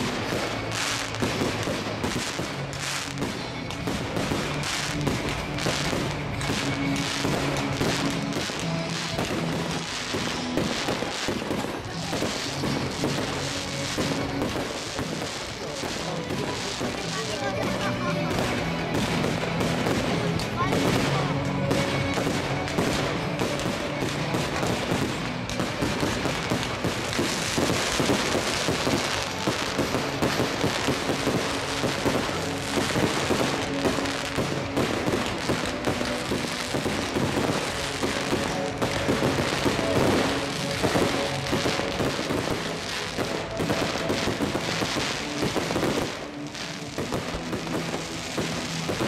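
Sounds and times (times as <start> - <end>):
fireworks crackling and banging: 0.0 - 49.0
music playing: 0.0 - 49.0.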